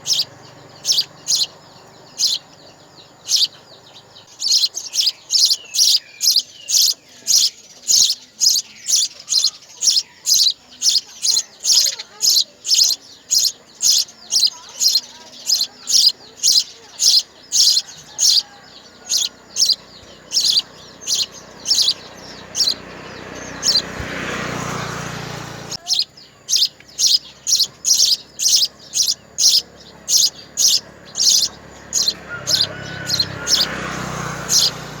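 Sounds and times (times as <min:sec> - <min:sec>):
baby birds chirping: 0:00.0 - 0:35.0.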